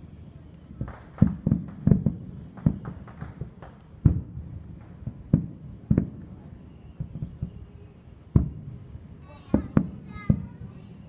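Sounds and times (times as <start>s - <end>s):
firework shells bursting with low bangs: 0.0s - 11.0s.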